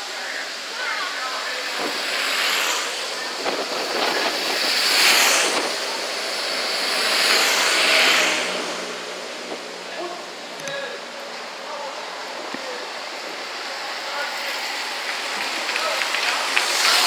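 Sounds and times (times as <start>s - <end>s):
motorcycles passing: 0.0s - 17.0s.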